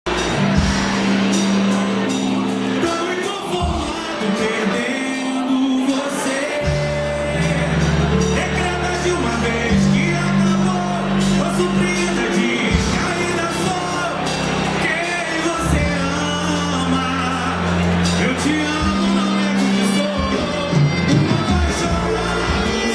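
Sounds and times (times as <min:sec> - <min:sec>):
long-held bass notes: 0:00.0 - 0:03.9, 0:06.6 - 0:22.9
band playing a song: 0:00.0 - 0:22.9
person singing: 0:00.1 - 0:22.9.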